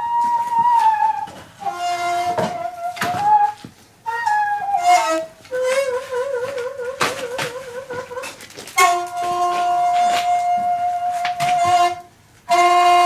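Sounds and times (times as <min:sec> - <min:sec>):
bamboo flute slow melody: 0:00.0 - 0:13.0.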